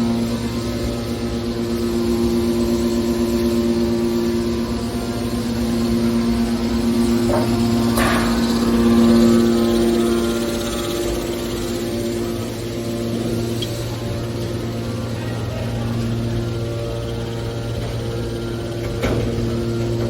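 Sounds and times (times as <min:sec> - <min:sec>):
hydraulic baler drone: 0:00.0 - 0:20.0.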